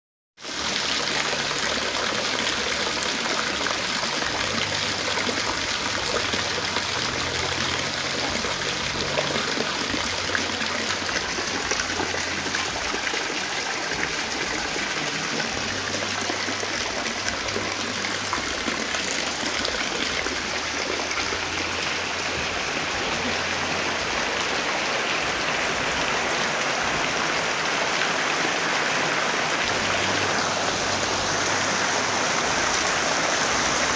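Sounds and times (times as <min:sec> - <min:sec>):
heavy rain: 0:00.4 - 0:33.9.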